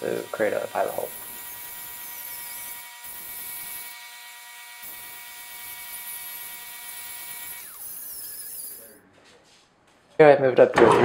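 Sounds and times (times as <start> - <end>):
metal lathe whining: 0.0 - 9.0.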